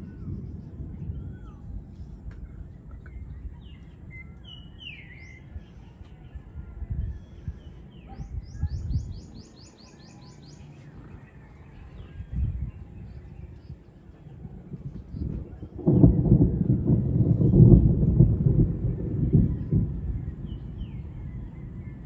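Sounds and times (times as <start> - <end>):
birds chirping: 0.0 - 22.0
low rumble: 0.0 - 22.0.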